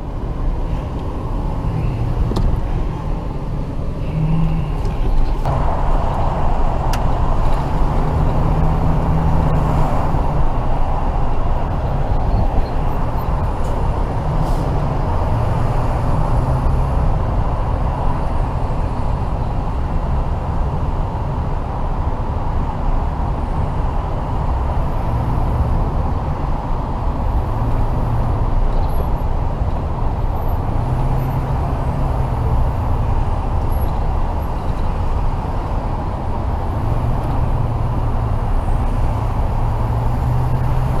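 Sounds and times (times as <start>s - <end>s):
tow truck engine and road drone: 0.0s - 41.0s.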